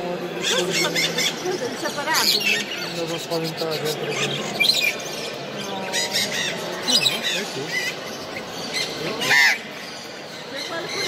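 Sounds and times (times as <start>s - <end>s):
parrots squawking and chirping: 0.2s - 11.0s.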